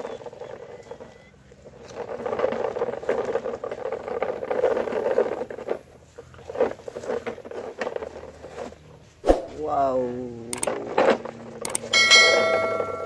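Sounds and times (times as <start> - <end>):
toy truck wheels crunching dirt: 0.0 - 13.0.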